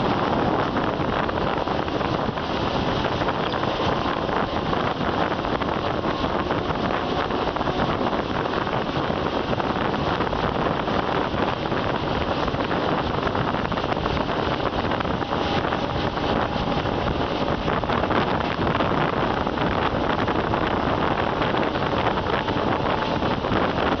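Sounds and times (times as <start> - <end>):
moving train rushing: 0.0 - 24.0
wind buffeting microphone: 0.0 - 24.0.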